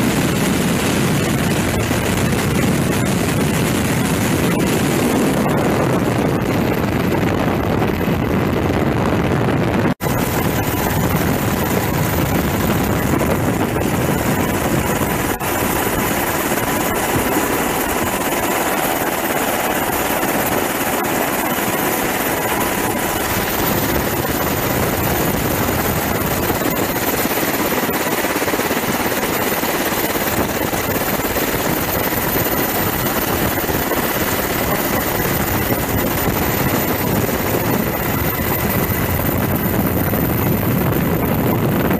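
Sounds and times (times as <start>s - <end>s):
helicopter rotor and turbine noise: 0.0s - 41.9s.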